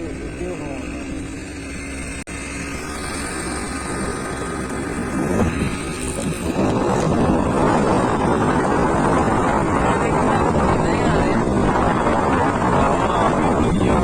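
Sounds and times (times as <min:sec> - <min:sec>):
motor scooter engine running: 0:00.0 - 0:14.0
road and wind noise: 0:00.0 - 0:14.0.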